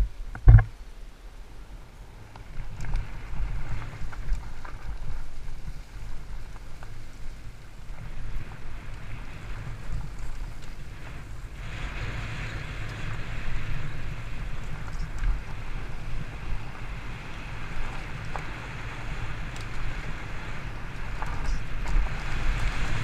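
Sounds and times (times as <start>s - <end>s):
bike tyres rolling over gravel: 1.5s - 23.0s
wind buffeting microphone: 2.0s - 23.0s.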